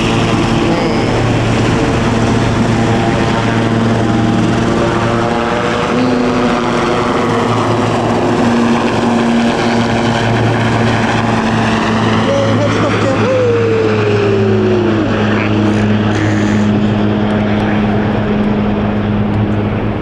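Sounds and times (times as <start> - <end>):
helicopter rotor and engine: 0.0 - 20.0
helicopter whine falling in pitch: 0.0 - 20.0.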